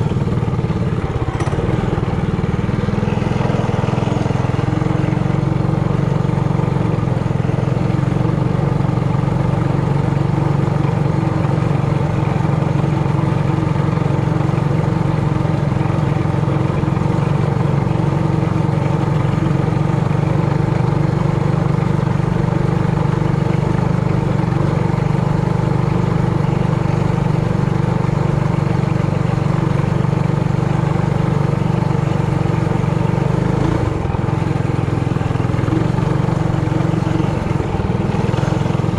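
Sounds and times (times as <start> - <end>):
single-cylinder engine running steadily: 0.0 - 38.9.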